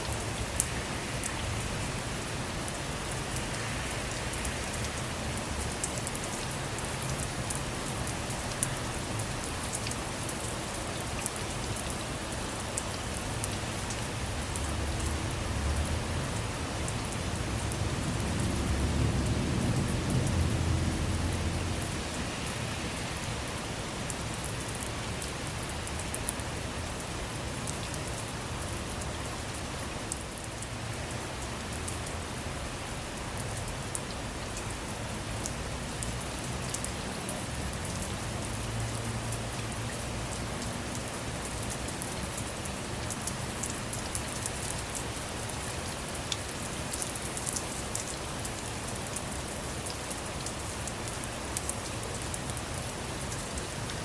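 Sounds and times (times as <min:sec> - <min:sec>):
rain falling on a car: 0:00.0 - 0:54.0.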